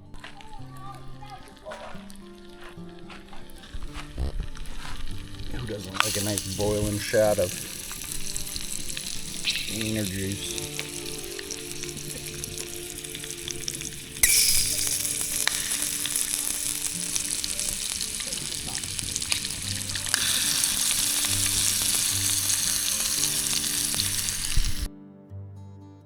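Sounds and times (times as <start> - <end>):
food sizzling over campfire: 0.0 - 24.9
soft guitar music: 0.0 - 26.0.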